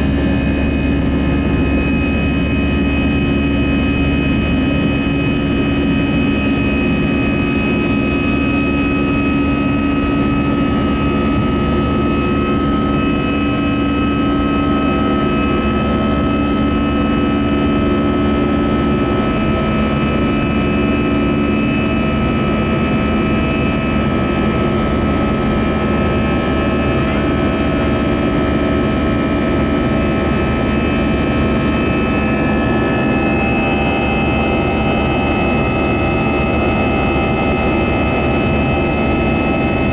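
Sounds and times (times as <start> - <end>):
airplane cabin engine roar: 0.0 - 39.9
steady whining tones: 0.0 - 39.9.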